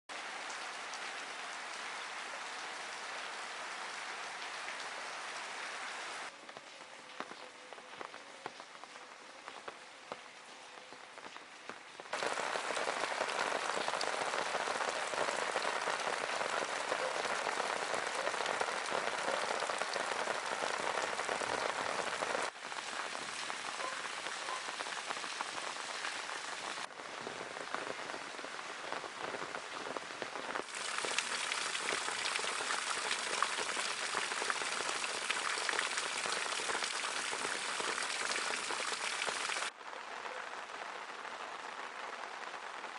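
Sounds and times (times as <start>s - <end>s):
rain on gravel and plants: 0.1s - 42.9s.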